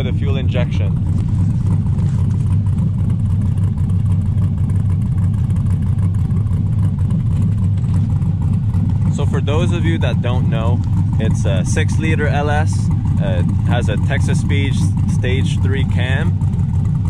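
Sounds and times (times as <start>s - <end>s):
choppy car engine idling: 0.0s - 17.0s.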